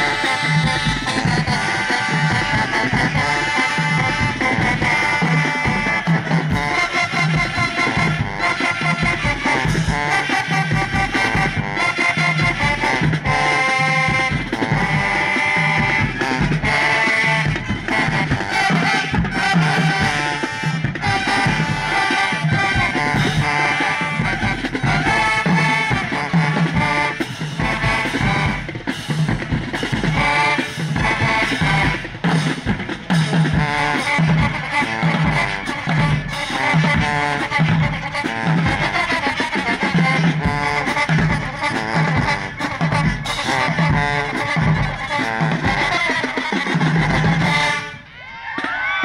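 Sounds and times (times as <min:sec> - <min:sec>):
marching band playing: 0:00.0 - 0:49.0.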